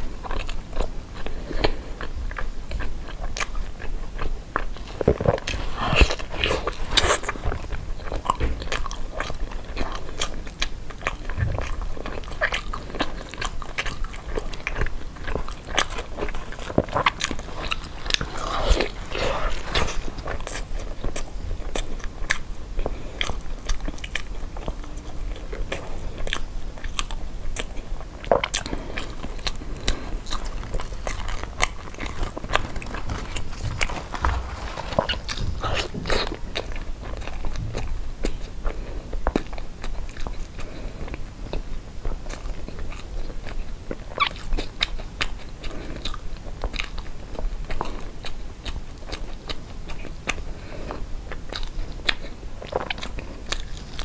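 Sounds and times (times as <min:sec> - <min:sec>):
biting and chewing sticky rice: 0:00.0 - 0:54.0.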